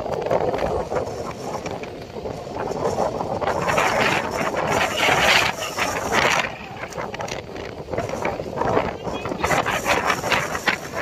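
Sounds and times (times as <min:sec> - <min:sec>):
boat engines rattling: 0:00.0 - 0:11.0
waves breaking: 0:00.0 - 0:11.0.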